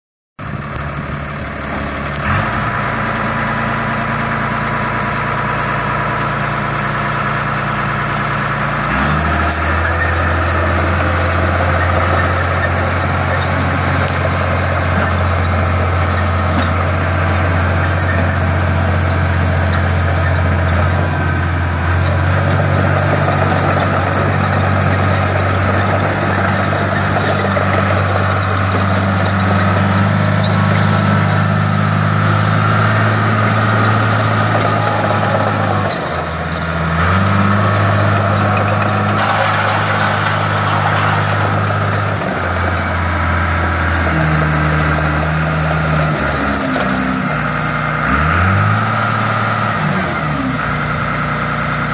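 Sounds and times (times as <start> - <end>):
diesel engine running: 0.4 - 51.9.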